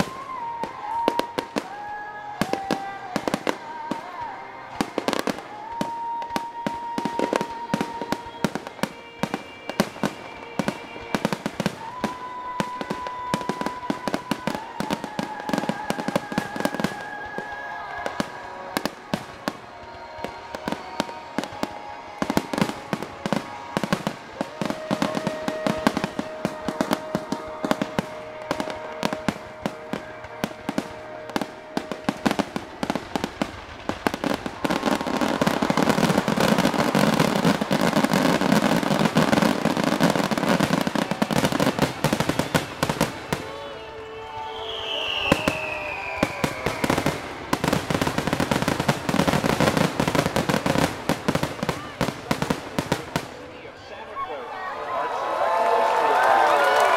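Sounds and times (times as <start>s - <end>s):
fireworks bangs and crackles: 0.0s - 54.4s.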